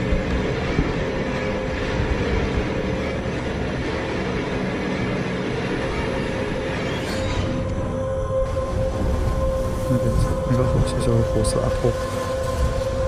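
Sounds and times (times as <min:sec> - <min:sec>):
train passing rumble: 0:00.0 - 0:13.0.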